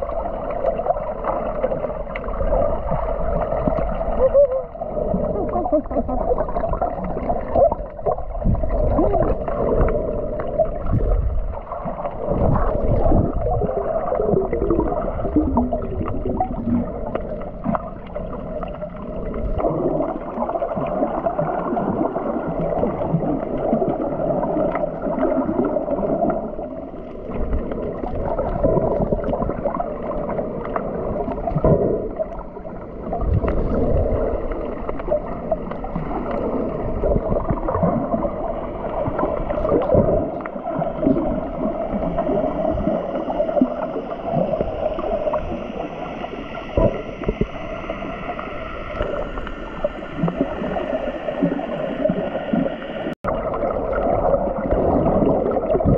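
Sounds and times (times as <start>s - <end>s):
water gurgling underwater: 0.0s - 55.9s.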